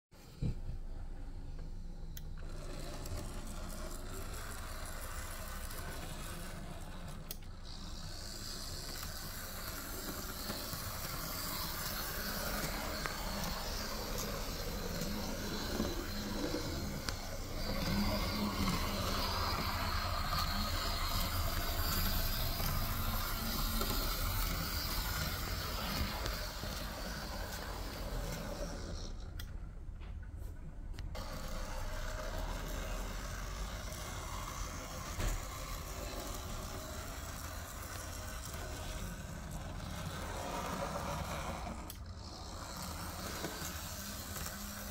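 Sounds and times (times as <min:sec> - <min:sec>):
model locomotive motor whir: 0:01.5 - 0:29.7, 0:31.0 - 0:44.9.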